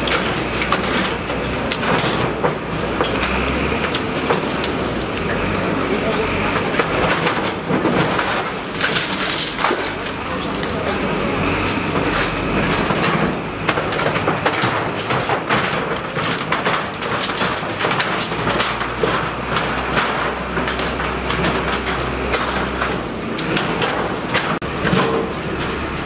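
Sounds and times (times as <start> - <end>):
sheet metal crashing and clattering: 0.0 - 5.1, 6.0 - 25.9
diesel engine drone: 0.0 - 26.0.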